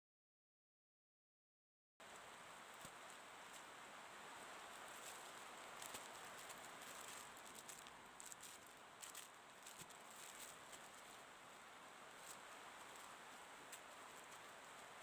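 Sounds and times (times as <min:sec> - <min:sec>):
soft hiss: 0:02.0 - 0:15.0.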